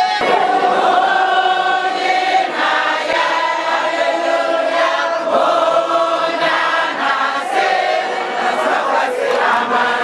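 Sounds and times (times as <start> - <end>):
congregation singing: 0.0 - 10.0.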